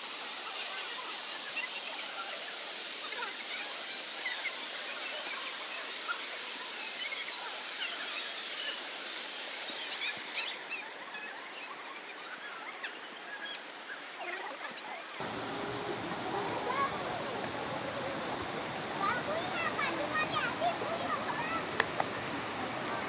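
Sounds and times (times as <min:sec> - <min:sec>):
waterfall rushing: 0:00.0 - 0:12.0, 0:12.9 - 0:23.0.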